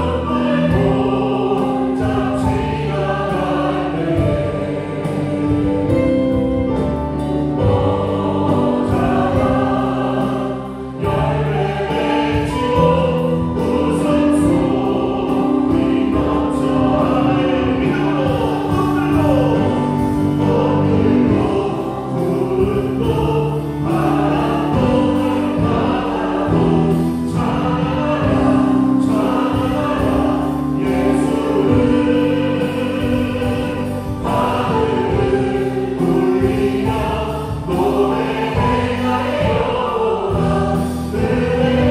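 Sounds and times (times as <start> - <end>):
drum kit: 0.0 - 41.9
group of voices singing: 0.0 - 41.9
keyboard: 0.0 - 41.9.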